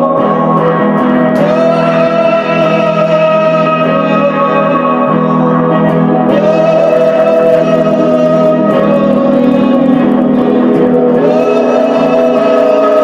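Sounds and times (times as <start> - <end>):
music of long held notes: 0.0 - 13.0
steady drone: 0.0 - 13.0.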